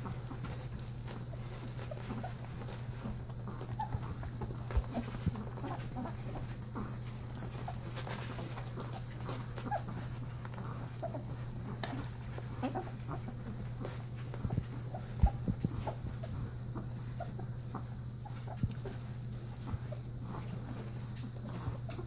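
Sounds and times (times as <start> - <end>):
steady low hum: 0.0 - 22.0
puppies squeaking and whimpering: 0.2 - 22.0.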